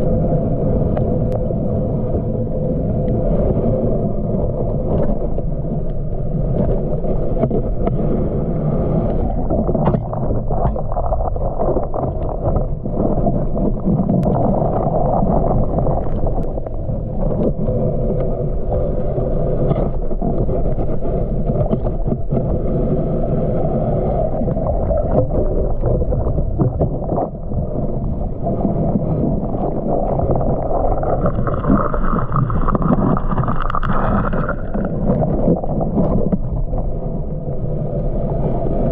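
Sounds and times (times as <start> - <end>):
underwater water rumble: 0.0 - 38.9.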